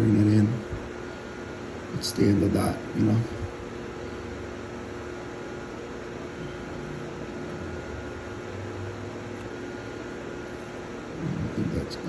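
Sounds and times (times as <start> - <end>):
fan humming: 0.0 - 12.0
steady background hiss: 0.0 - 12.0.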